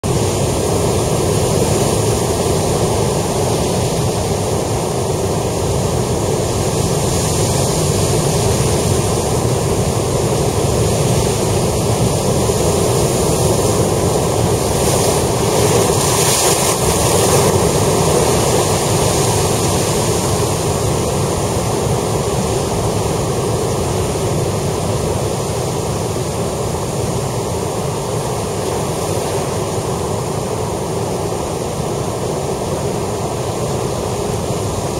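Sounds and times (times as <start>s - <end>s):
surf breaking over rocks: 0.0s - 34.9s
wave crashing: 0.0s - 34.9s.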